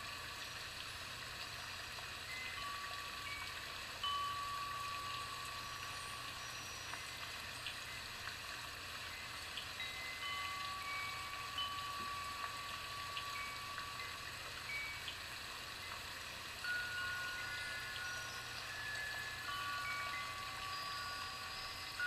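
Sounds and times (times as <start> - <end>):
soft chime-like music: 0.0 - 22.0
steady hiss: 0.0 - 22.0.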